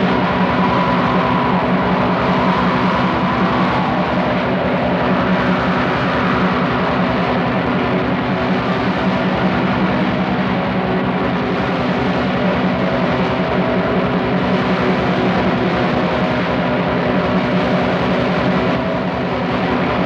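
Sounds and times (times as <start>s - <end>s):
distorted guitars: 0.0s - 19.2s.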